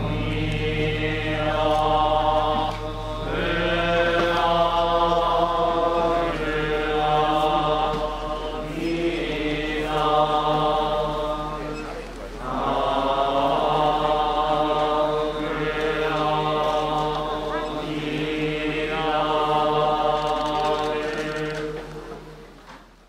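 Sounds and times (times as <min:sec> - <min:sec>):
monks chanting: 0:00.0 - 0:22.6
low steady hum: 0:00.0 - 0:23.0.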